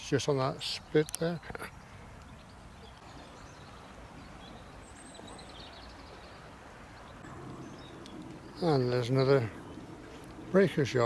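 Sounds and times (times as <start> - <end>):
steady low hiss: 0.0 - 11.0
faint bird chirps: 1.0 - 10.7.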